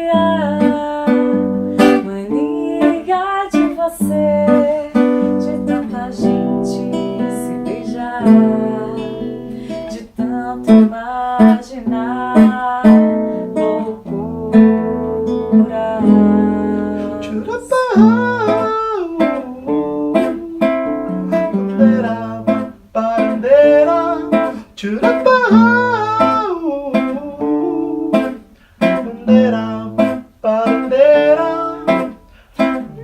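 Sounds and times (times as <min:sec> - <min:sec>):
acoustic guitar playing chords: 0:00.0 - 0:33.0
wordless melody line: 0:00.0 - 0:33.0.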